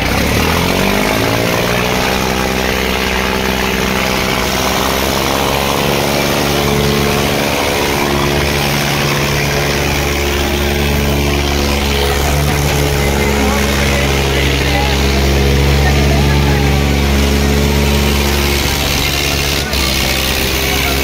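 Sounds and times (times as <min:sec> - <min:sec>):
tractor engines at full throttle: 0:00.0 - 0:21.0.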